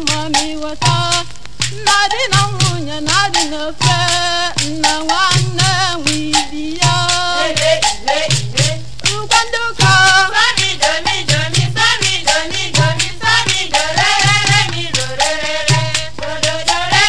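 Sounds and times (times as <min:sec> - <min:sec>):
percussion beat: 0:00.0 - 0:17.0
women singing together: 0:00.0 - 0:17.0.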